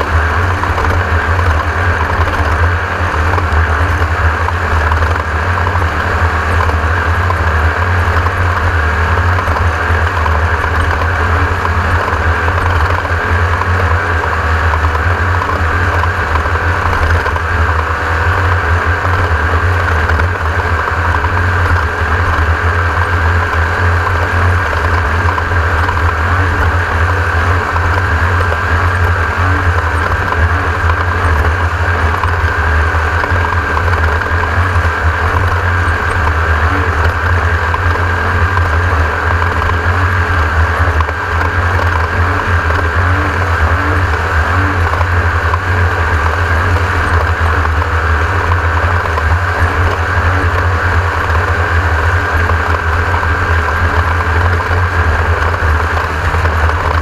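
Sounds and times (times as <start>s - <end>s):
race buggy engine drone: 0.0s - 57.0s.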